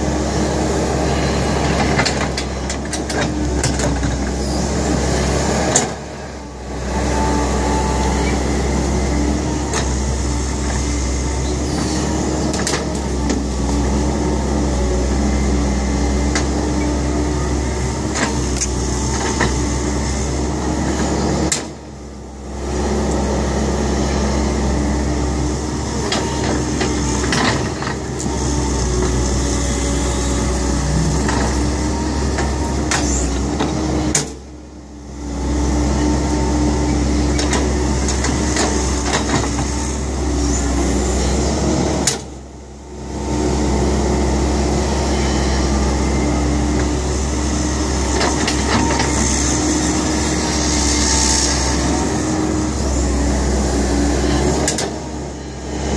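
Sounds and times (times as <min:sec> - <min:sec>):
excavator diesel engine: 0:00.0 - 0:55.9.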